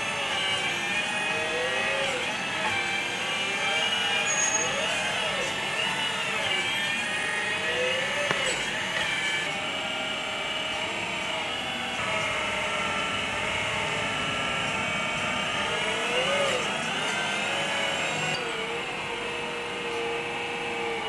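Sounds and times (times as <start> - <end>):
electric hydraulic pump whining: 0.0 - 21.0.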